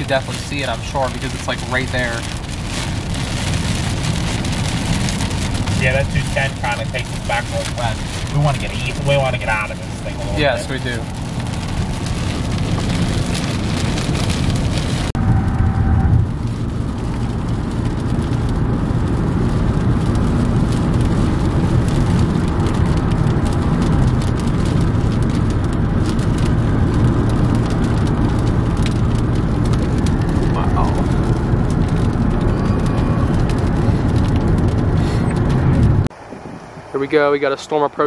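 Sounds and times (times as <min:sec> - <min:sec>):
rain pattering on car roof: 0:00.0 - 0:38.0
road noise inside car: 0:00.0 - 0:38.0.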